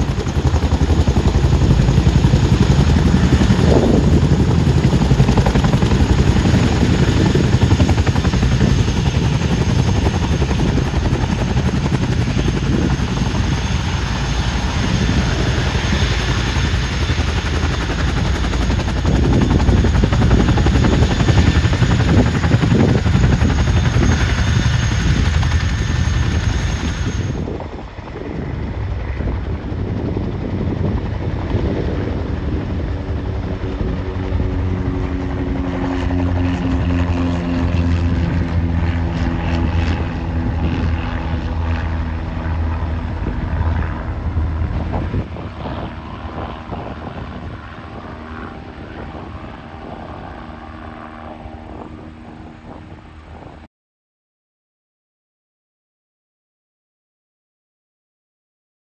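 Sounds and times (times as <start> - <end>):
helicopter engines whining: 0.0 - 53.7
helicopter rotors beating: 0.0 - 53.7.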